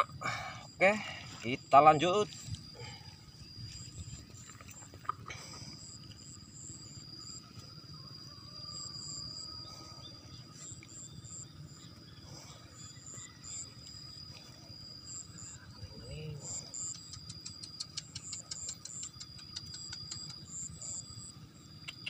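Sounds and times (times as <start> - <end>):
insect high-pitched drone: 0.0 - 22.0
pulsing insect chirp: 0.0 - 22.0.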